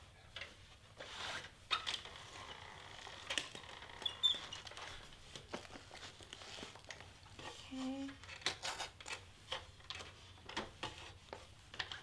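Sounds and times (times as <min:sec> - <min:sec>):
rustling of paper and film: 0:00.3 - 0:12.0.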